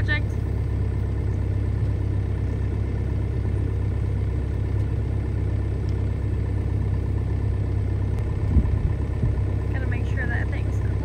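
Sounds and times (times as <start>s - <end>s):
excavator diesel engine idling: 0.0s - 11.0s.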